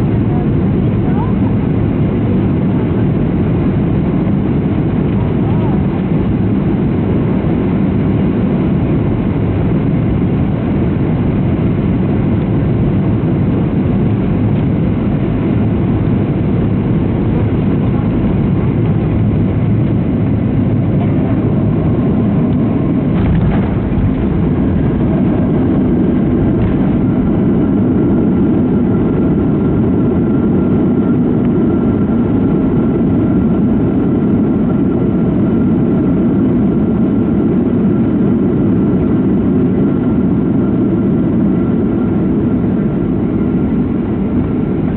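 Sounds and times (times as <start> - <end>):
jet engine rumble in cabin: 0.0 - 44.9.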